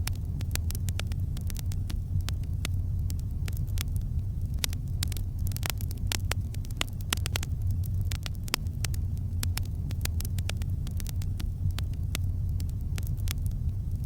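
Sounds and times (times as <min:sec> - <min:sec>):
campfire crackling: 0:00.0 - 0:14.0
low rumble: 0:00.0 - 0:14.0.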